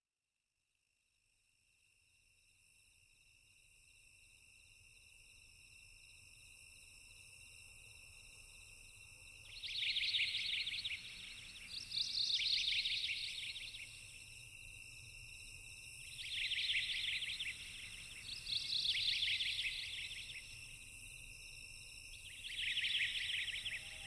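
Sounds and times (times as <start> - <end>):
crickets chirping: 1.8 - 24.0.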